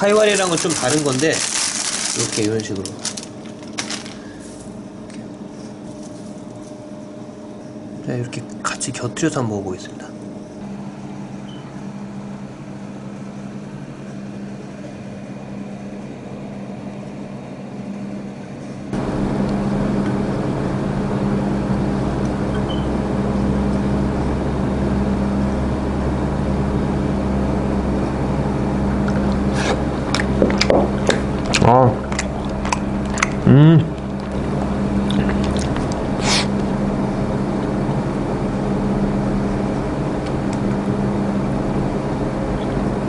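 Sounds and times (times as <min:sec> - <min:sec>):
machine hum of low tones: 0:00.0 - 0:43.0.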